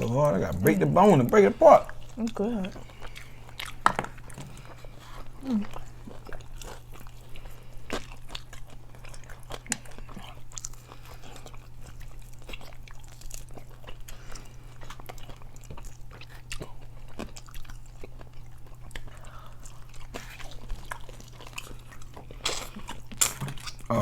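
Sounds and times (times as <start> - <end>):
crunching and chewing fried chicken: 0.0 - 24.0.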